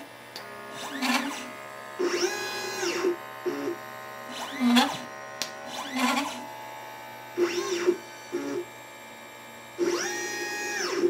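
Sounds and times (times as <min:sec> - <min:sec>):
stepper motor whine: 0:00.0 - 0:11.0.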